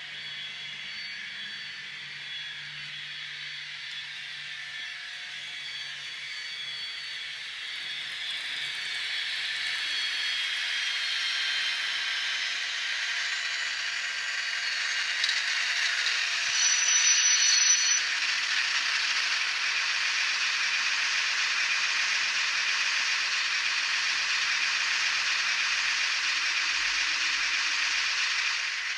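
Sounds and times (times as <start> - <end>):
model train mechanism noise: 0.0 - 28.9.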